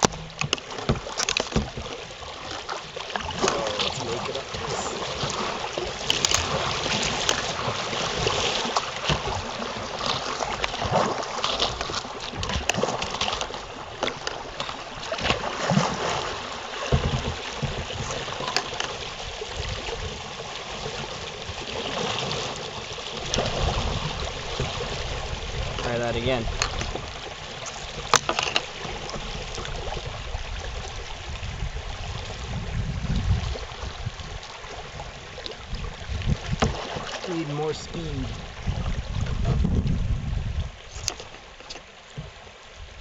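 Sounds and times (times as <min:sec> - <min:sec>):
creek water rushing and gurgling: 0:00.0 - 0:43.0
kayak paddle splashing: 0:00.0 - 0:43.0.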